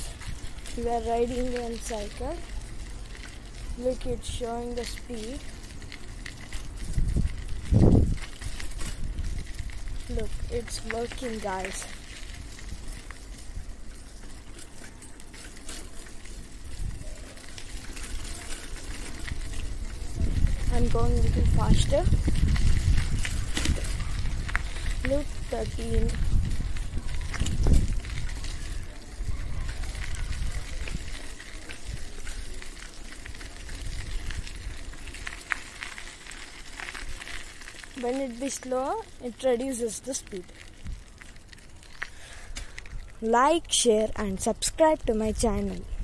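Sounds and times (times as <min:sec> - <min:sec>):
bicycle rumbling over concrete: 0:00.0 - 0:46.0
bike clicks and rattles: 0:00.0 - 0:46.0.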